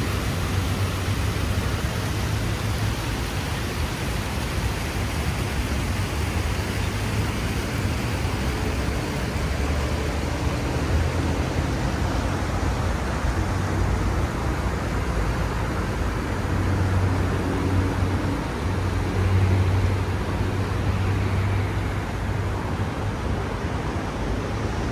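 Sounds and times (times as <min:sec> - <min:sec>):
road traffic rumble: 0:00.0 - 0:24.9.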